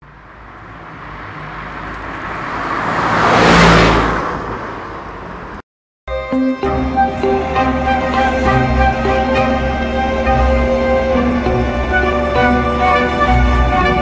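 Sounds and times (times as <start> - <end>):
vehicle passing by: 0.3 - 5.6, 6.7 - 14.0.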